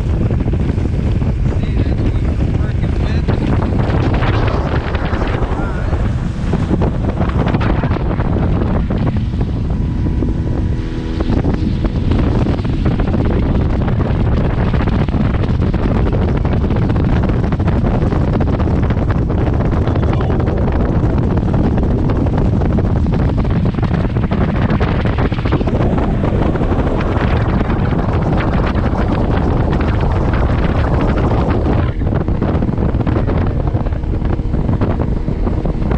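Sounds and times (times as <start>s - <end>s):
motorboat engine drone: 0.0s - 35.9s
wind buffeting microphone: 0.0s - 35.9s.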